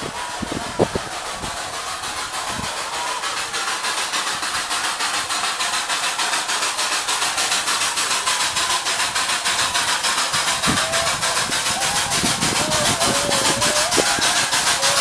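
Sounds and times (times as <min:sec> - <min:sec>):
steam hissing from cylinders: 0:00.0 - 0:15.0
steam locomotive chuffing: 0:00.0 - 0:15.0.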